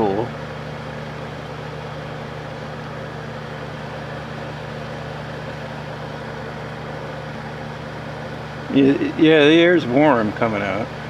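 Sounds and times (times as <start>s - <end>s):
dehumidifier fan humming: 0.0s - 11.0s.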